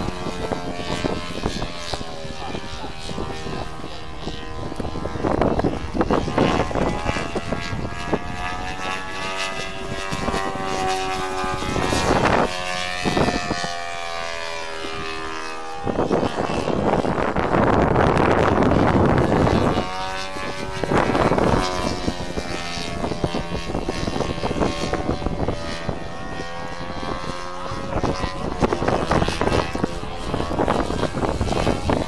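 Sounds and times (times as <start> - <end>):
model plane engine and propeller: 0.0 - 32.0
wind gusts on microphone: 0.0 - 32.0.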